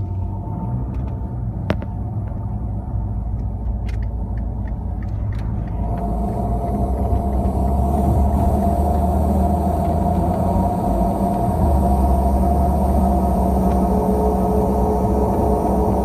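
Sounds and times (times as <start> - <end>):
car cabin rumble: 0.0 - 16.0
faint droning tone: 0.0 - 16.0.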